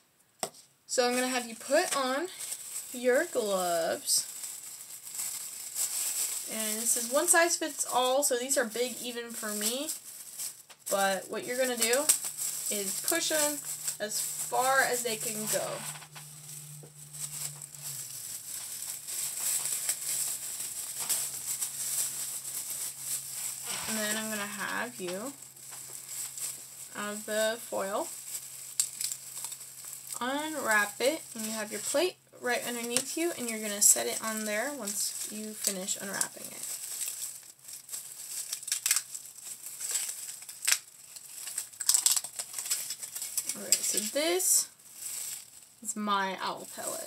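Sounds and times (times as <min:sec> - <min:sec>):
plastic gloves crinkling: 0:00.4 - 0:47.0.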